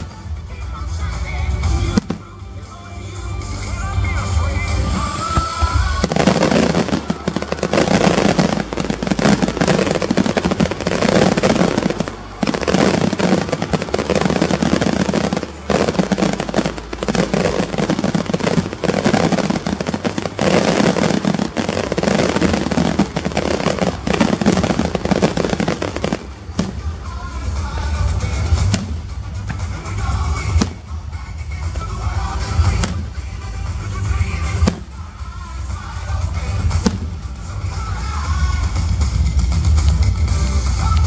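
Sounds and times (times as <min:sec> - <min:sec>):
fireworks crackling and banging: 0:00.0 - 0:41.0.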